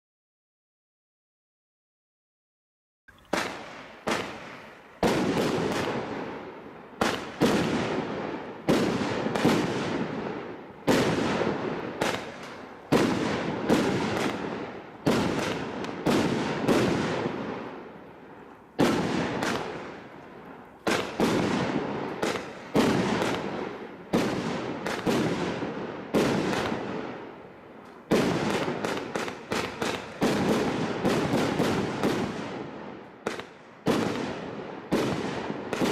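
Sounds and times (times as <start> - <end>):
firework cake bangs: 3.3 - 18.0, 18.8 - 20.1, 20.8 - 27.3, 28.0 - 35.9.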